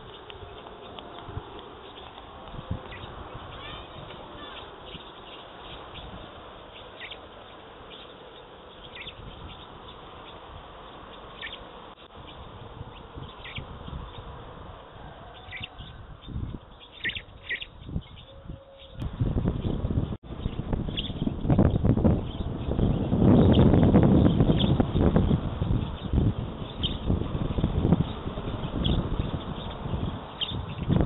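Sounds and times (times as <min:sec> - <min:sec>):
small birds chirping: 0:00.0 - 0:14.4, 0:15.1 - 0:31.0
low rumbling noise: 0:00.0 - 0:31.0
outdoor background hiss: 0:00.0 - 0:31.0.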